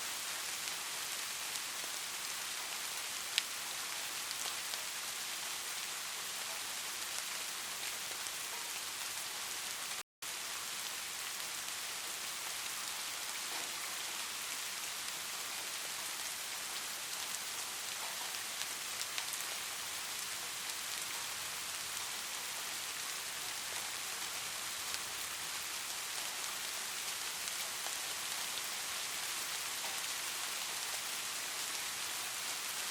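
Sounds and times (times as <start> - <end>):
light rain: 0.0 - 32.9.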